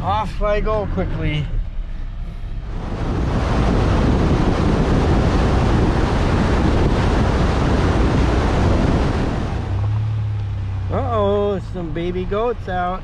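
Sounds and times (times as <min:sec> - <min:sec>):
road noise: 0:00.0 - 0:13.0
wind buffeting microphone: 0:00.6 - 0:13.0.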